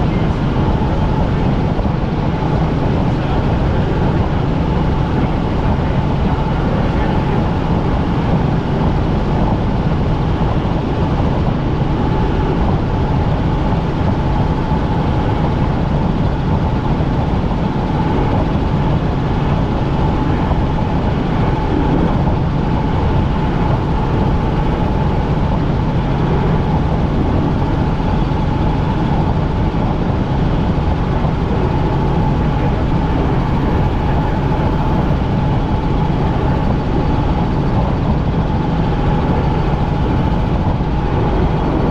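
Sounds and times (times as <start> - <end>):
constant engine whine: 0.0 - 41.9
helicopter rotor and engine drone: 0.0 - 41.9.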